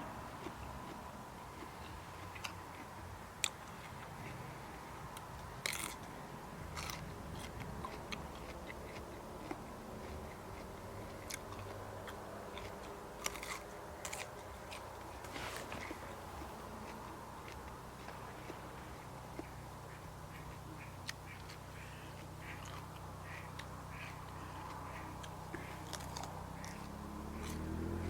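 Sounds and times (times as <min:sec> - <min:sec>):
chewing crunchy vegetables: 0:00.0 - 0:28.0.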